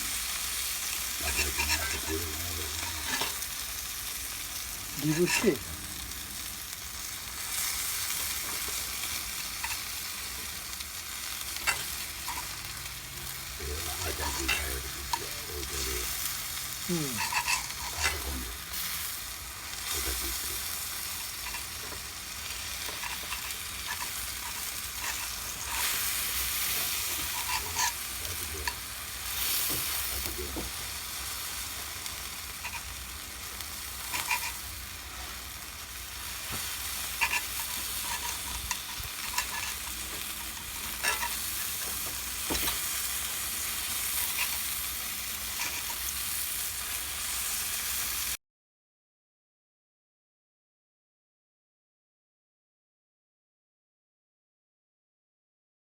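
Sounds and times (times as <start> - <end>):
steak sizzling over fire: 0.0 - 48.4.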